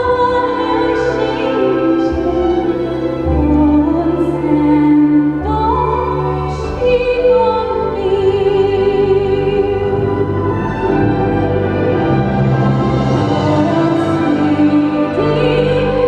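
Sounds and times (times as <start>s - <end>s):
soprano singing with vibrato: 0.0s - 11.3s, 13.2s - 16.0s
instrumental accompaniment: 0.0s - 16.0s.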